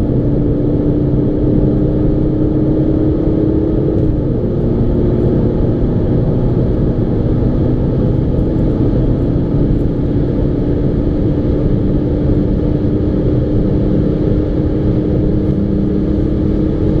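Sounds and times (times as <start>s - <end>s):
car engine drone: 0.0s - 17.0s
road and wind noise: 0.0s - 17.0s.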